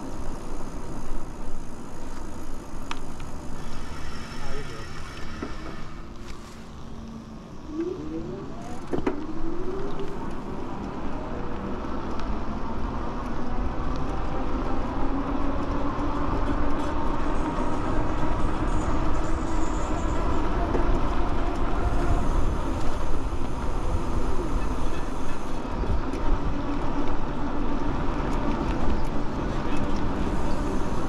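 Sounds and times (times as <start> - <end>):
tyre noise on road: 0.0 - 31.0.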